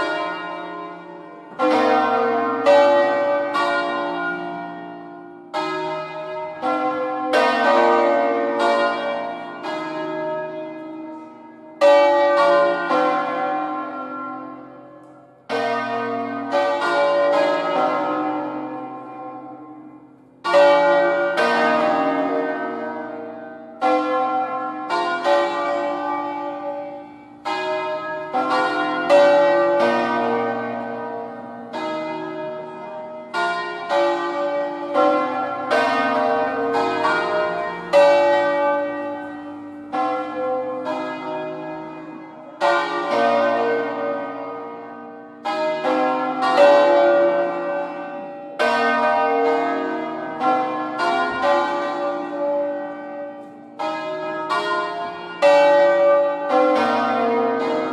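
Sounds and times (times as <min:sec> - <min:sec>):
church bells pealing: 0:00.0 - 0:57.9.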